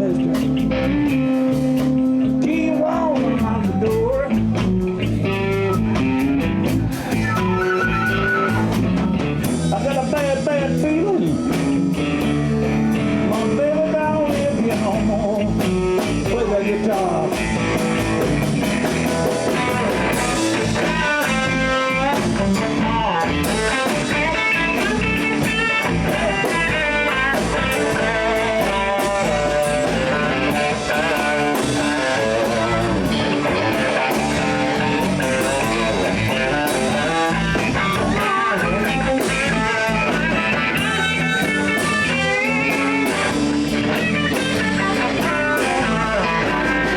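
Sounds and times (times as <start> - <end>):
live blues band playing: 0.0 - 46.9.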